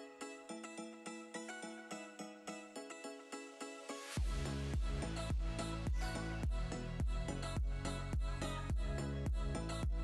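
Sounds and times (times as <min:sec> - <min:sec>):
background music evenly spaced notes: 0:00.0 - 0:10.0.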